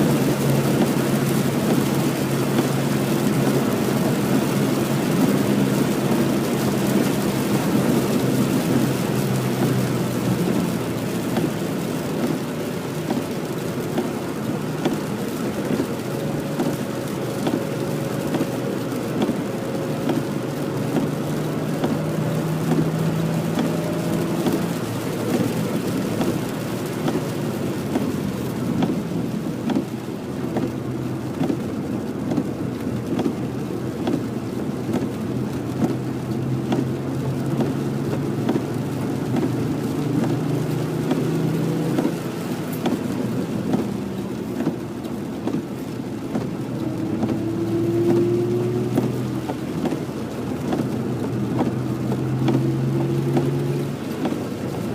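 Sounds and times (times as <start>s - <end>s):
car engine revving: 0.0s - 29.9s, 34.0s - 54.9s
rain and tyre spray hiss: 0.0s - 54.9s.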